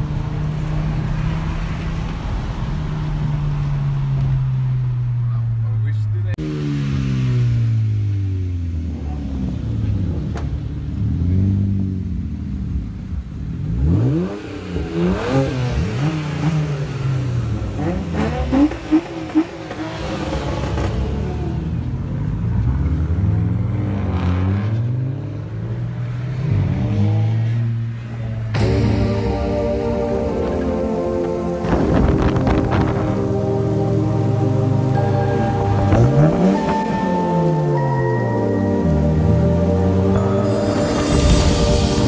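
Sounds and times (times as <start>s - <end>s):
car engines revving past: 6.3s - 42.0s.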